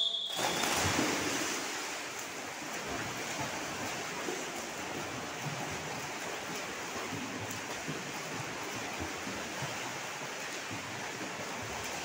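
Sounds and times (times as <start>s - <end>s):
swimmers splashing water: 0.2s - 12.0s.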